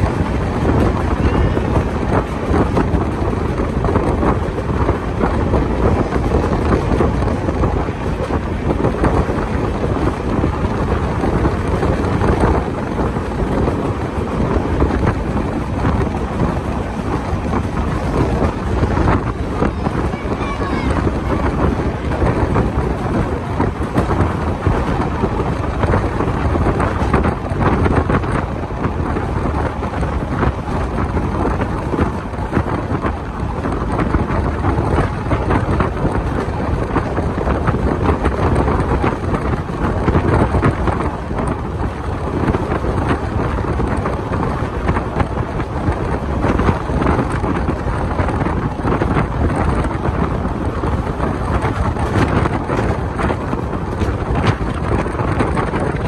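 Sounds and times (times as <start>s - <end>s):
train wheels rumbling on track: 0.0s - 56.0s
wind buffeting microphone: 0.0s - 56.0s.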